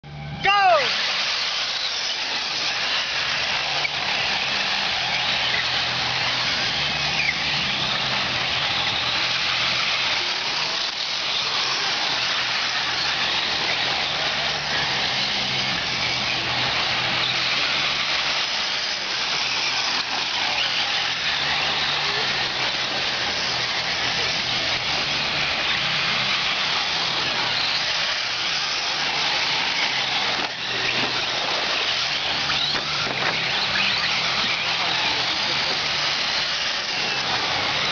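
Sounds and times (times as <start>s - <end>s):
high engine whines: 0.0s - 37.9s
racing vehicles running: 0.0s - 37.9s.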